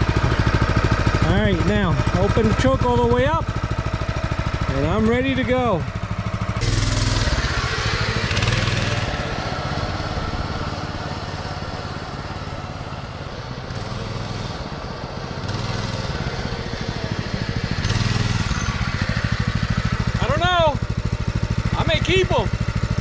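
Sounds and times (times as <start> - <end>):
mini bike engine running: 0.0 - 23.0.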